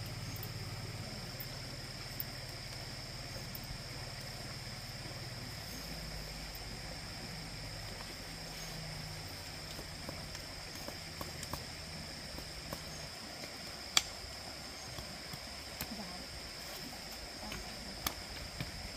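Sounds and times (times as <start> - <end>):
insects chirring: 0.0 - 18.9
low steady hum: 0.0 - 18.9.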